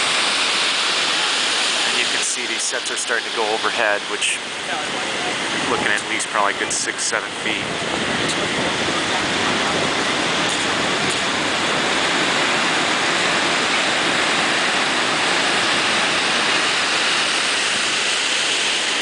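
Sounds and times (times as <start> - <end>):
heavy ocean surf breaking: 0.0 - 19.0.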